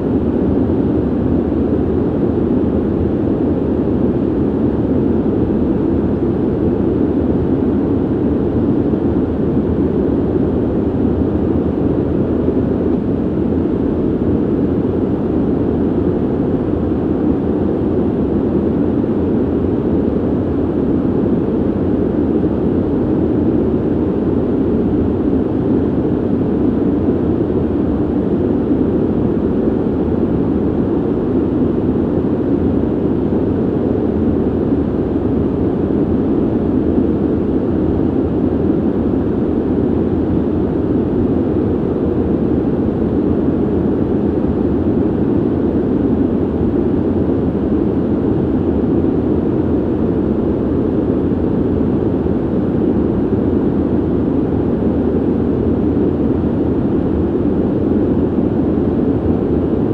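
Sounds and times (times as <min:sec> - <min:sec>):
ventilation air hiss: 0:00.0 - 0:59.9.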